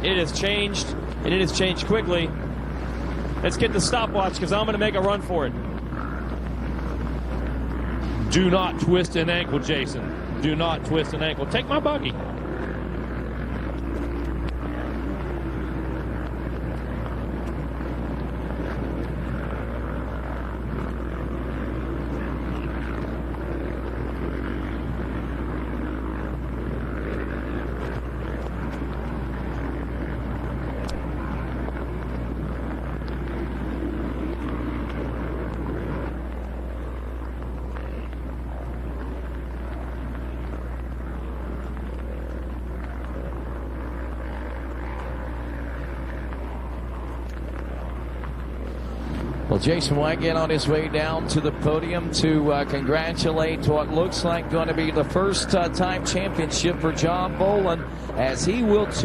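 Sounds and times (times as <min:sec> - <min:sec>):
motocross bike engines: 0:00.0 - 0:59.0
steady low hum: 0:00.0 - 0:59.0.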